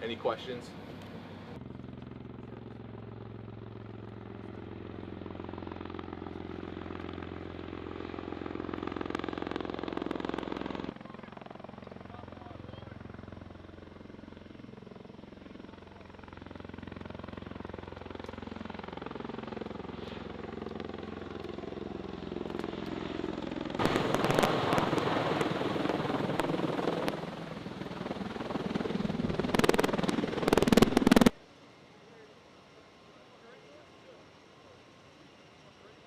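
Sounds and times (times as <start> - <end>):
aircraft engine and rotors running: 0.0 - 36.0.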